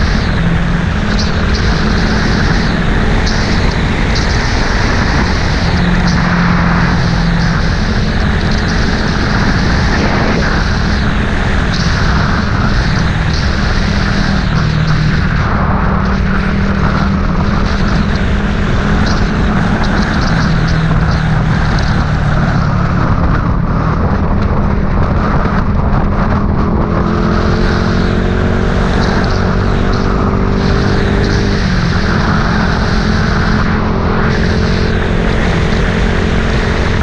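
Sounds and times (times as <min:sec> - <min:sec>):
road and wind noise: 0:00.0 - 0:37.0
vehicle engine running: 0:00.0 - 0:37.0.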